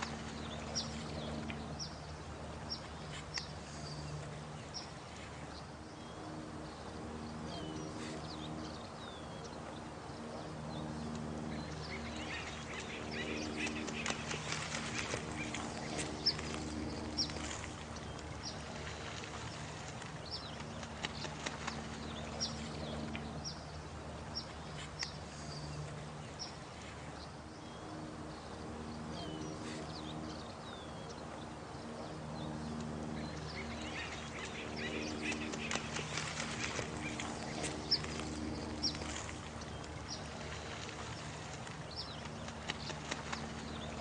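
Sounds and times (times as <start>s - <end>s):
running water: 0.0s - 44.0s.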